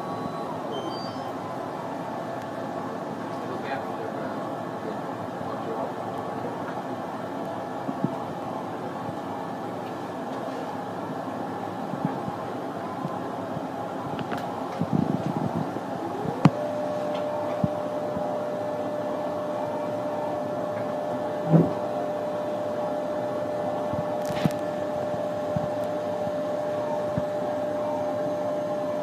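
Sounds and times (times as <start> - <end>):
printer motor whine: 0.0 - 10.3, 11.2 - 29.0
fan-like hum: 0.0 - 29.0.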